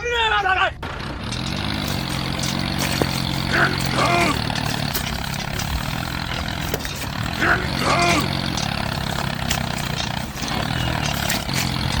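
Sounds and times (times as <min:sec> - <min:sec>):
small motor running: 0:01.1 - 0:12.0.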